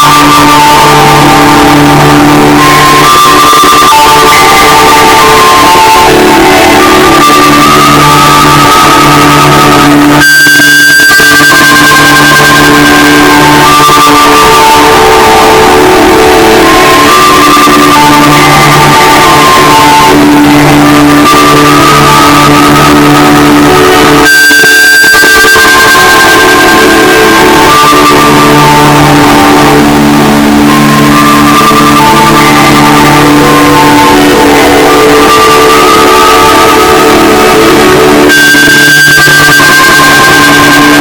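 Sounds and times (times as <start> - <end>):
distorted electronic alert tones: 0.0 - 41.0.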